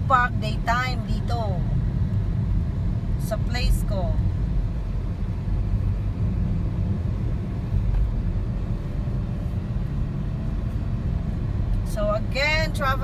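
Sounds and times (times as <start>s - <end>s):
vehicle interior rumble: 0.0s - 13.0s.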